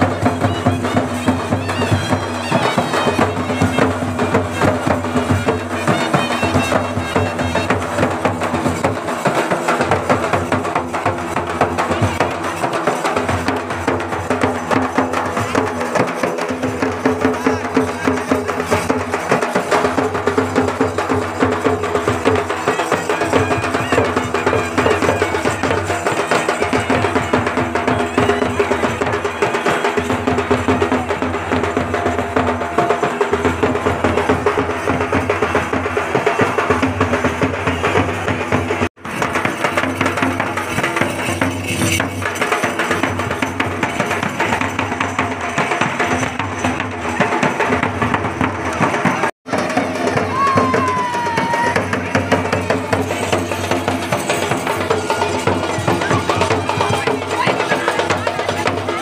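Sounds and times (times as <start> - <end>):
drum and percussion beats: 0.0 - 59.0
folk dance music: 0.0 - 59.0.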